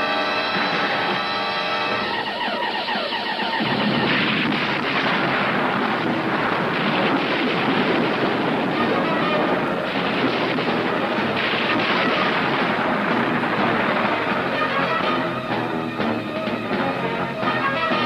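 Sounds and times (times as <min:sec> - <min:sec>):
heavy rain: 0:00.0 - 0:18.0
thunder rumbling: 0:03.4 - 0:18.0.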